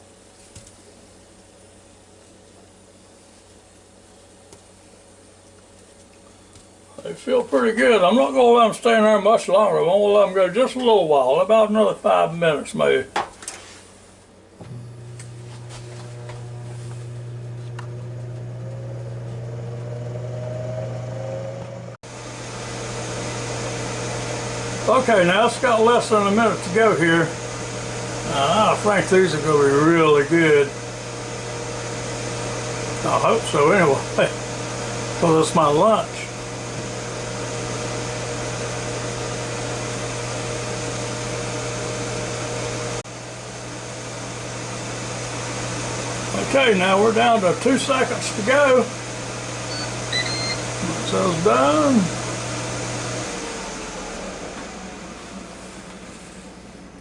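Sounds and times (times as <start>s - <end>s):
air fryer fan humming: 0.0s - 57.0s.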